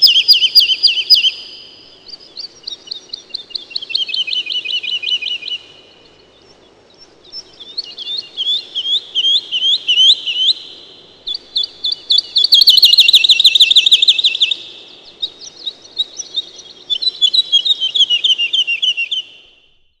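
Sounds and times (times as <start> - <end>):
swallow chirping: 0.0 - 19.5.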